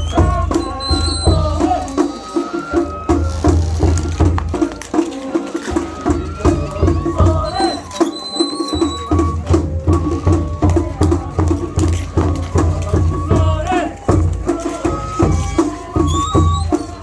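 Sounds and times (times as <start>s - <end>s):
high flute melody: 0.0s - 17.0s
taiko drums beating: 0.0s - 17.0s.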